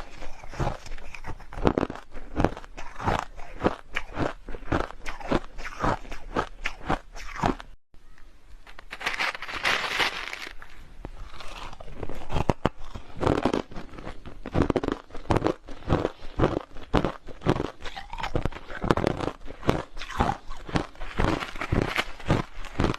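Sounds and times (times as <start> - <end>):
person crunching ice: 0.0 - 7.6, 8.8 - 22.9.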